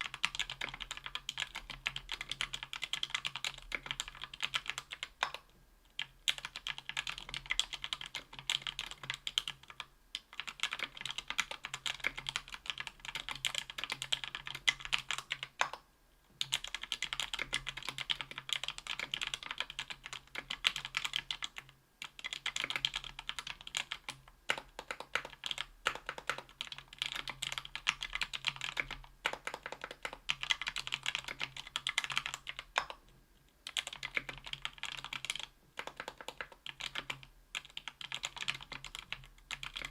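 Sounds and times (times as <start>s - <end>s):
fast typing on mechanical keyboard: 0.0s - 5.4s, 6.0s - 15.8s, 16.4s - 33.0s, 33.6s - 39.9s.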